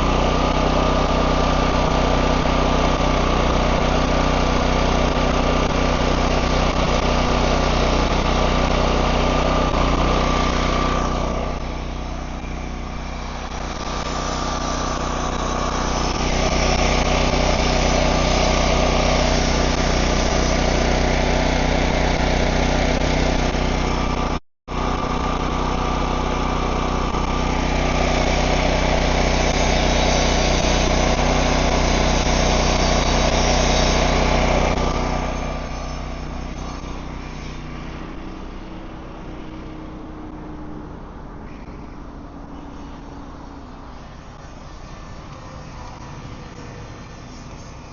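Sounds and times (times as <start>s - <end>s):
welding arc crackle: 0.0s - 40.0s
engine humming: 0.0s - 47.9s.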